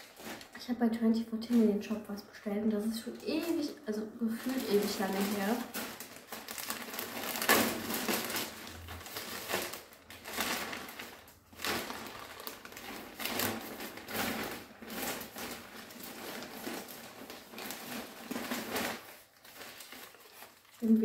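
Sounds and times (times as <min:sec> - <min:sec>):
plastic bag rustling and crinkling: 0:00.0 - 0:21.0.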